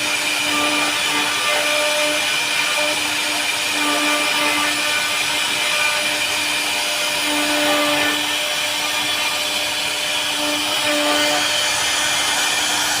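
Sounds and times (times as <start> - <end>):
router spindle cutting hiss: 0.0 - 13.0.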